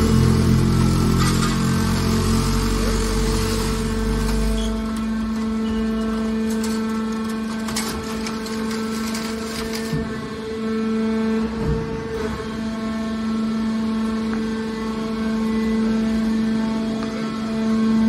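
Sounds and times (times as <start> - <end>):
hydraulic pump humming: 0.0 - 18.0.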